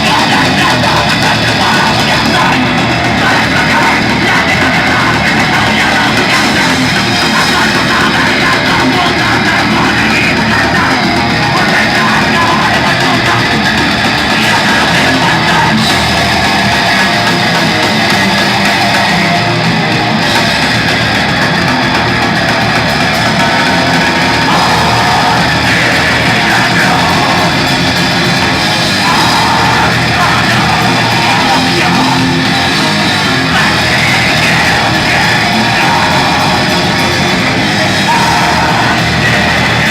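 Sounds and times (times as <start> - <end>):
live band playing heavy rock: 0.0 - 39.9.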